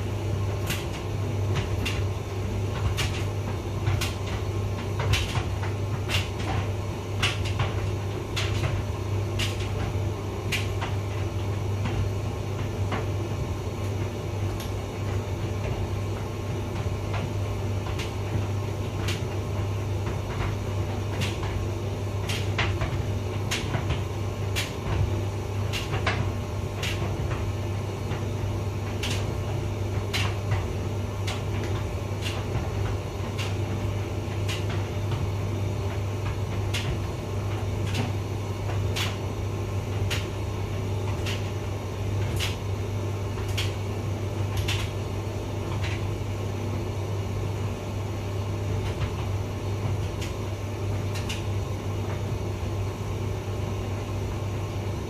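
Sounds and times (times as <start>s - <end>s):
tumble dryer humming: 0.0s - 55.0s
clicks and knocks of tumbling load: 0.4s - 46.8s, 48.4s - 52.6s.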